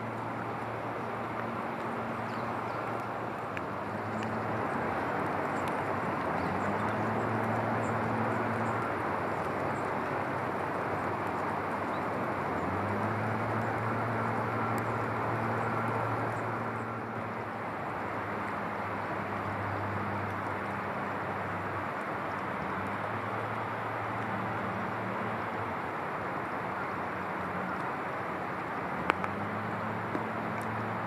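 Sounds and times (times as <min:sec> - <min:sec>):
constant rushing noise: 0:00.0 - 0:31.0
low engine hum: 0:00.0 - 0:31.0.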